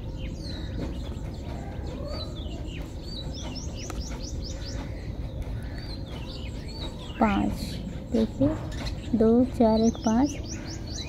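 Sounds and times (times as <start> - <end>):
low background rumble: 0.0 - 11.0
small birds chirping: 0.0 - 11.0.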